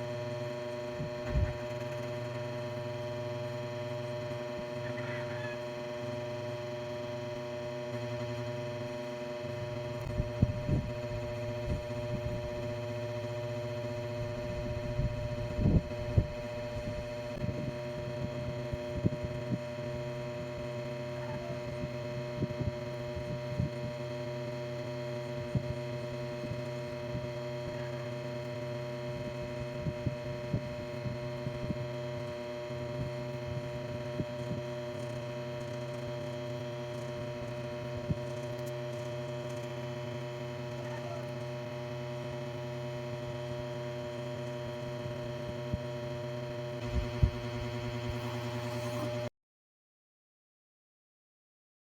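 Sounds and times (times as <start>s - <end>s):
steady electrical hum: 0.0s - 49.3s.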